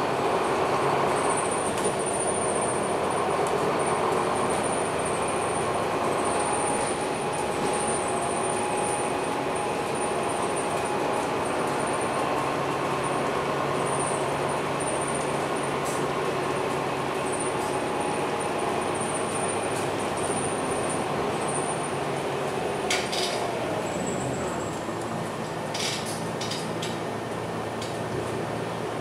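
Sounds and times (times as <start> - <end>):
bus engine drone: 0.0 - 29.0
road noise: 0.0 - 29.0.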